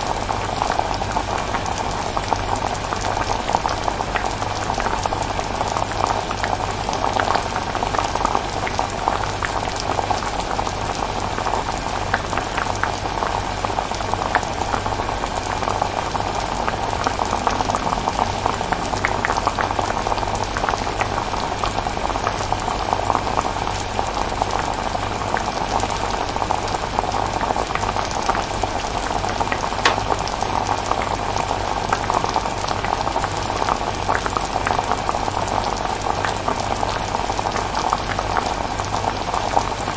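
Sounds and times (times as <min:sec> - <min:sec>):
chilli bubbling and popping: 0:00.1 - 0:39.9.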